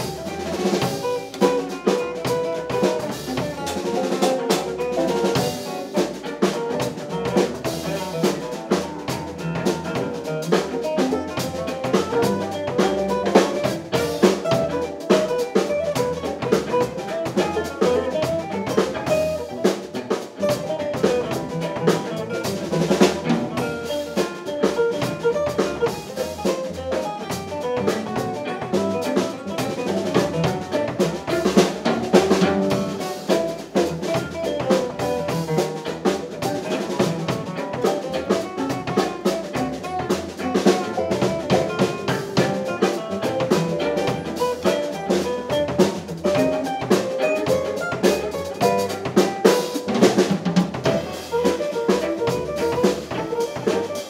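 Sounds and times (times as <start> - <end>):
drum kit hits: 0.0 - 54.0
string band playing a tune: 0.0 - 54.0.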